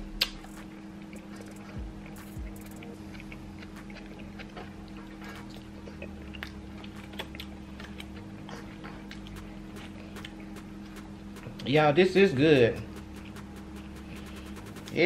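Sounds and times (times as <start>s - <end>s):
person chewing with lip-smacking: 0.2s - 11.7s, 12.8s - 15.0s.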